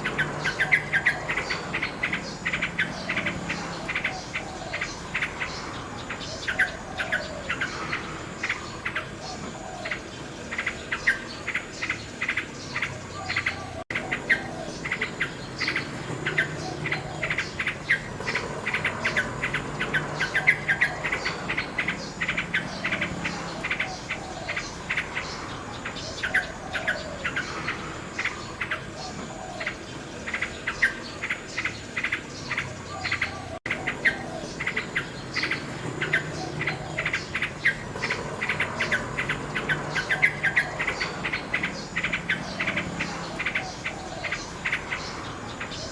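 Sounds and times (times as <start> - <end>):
insects chirping: 0.0 - 45.9
nightingale singing: 0.0 - 45.9.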